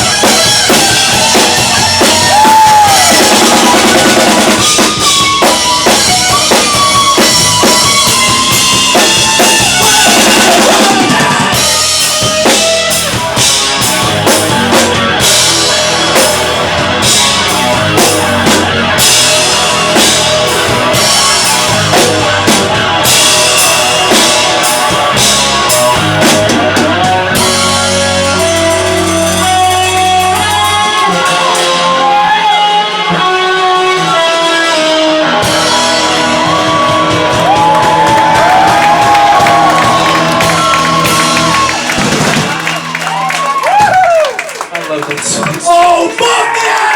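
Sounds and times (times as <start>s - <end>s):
drum kit steady beat: 0.0s - 34.1s, 35.2s - 44.3s
bass guitar: 0.0s - 44.6s
electric guitar: 0.0s - 44.7s.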